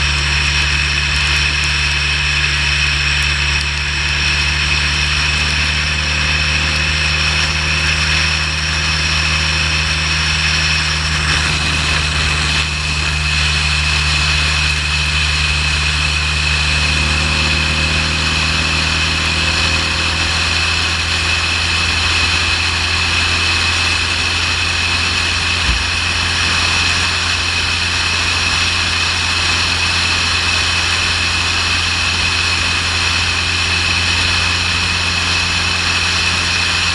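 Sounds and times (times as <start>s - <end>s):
motorcycle engine running: 0.0s - 36.9s
road and wind noise: 0.0s - 36.9s.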